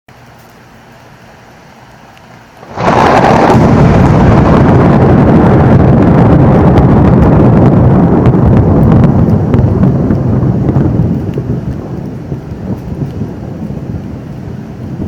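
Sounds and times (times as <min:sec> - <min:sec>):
rain hiss: 0:00.2 - 0:15.0
thunderclap and rumble: 0:02.6 - 0:15.0.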